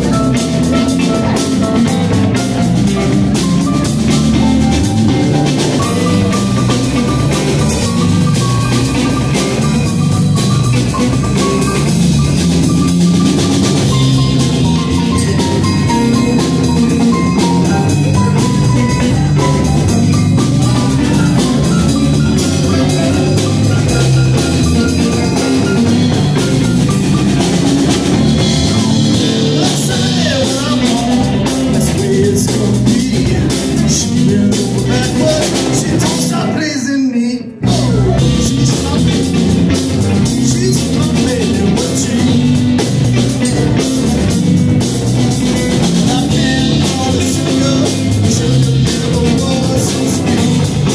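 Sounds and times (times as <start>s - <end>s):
electric guitar: 0.0s - 50.9s
live rock band playing: 0.0s - 50.9s.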